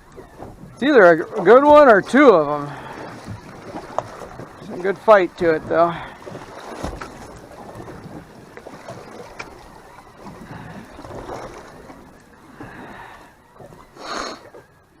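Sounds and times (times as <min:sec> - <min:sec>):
sea: 0:00.0 - 0:15.0.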